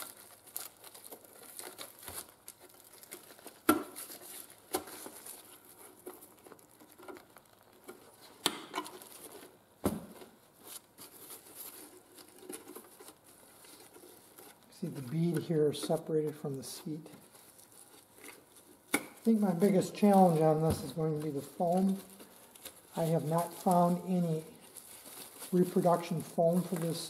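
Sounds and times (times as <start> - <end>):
vinyl cover crackling and tearing: 0.0 - 27.0.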